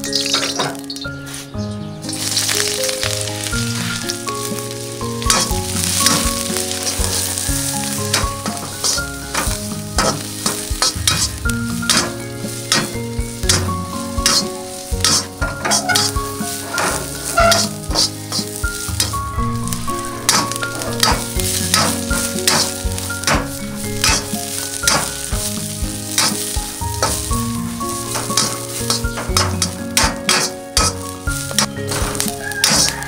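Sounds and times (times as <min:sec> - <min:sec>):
food sizzling in hot oil: 0:00.0 - 0:33.0
metal spatula scraping wok: 0:00.0 - 0:33.0.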